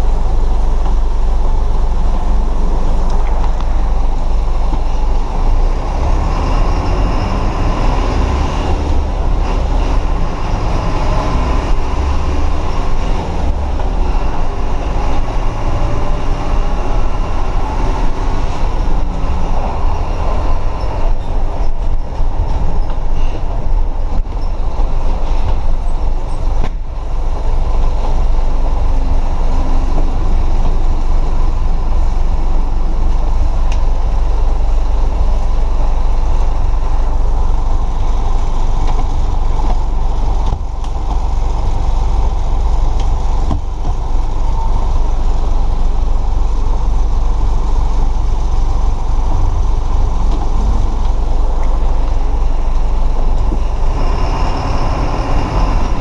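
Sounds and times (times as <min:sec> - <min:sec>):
bus body rattling and creaking: 0:00.0 - 0:56.0
bus engine running: 0:00.0 - 0:56.0
rain and wet tyres hissing: 0:00.0 - 0:56.0.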